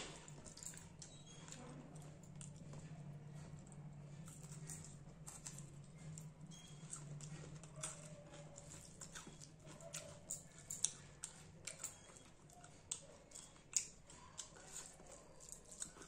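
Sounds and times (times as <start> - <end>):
person chewing with mouth open: 0.0 - 16.0.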